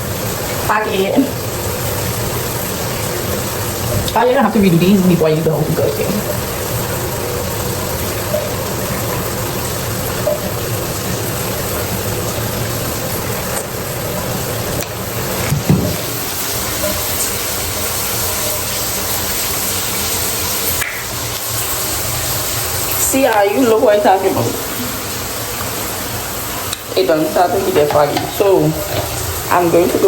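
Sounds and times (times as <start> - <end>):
water running: 0.0 - 30.0.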